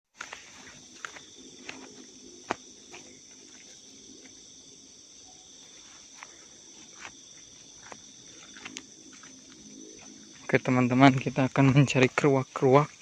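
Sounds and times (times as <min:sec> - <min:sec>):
night insects trilling: 0:00.2 - 0:13.0.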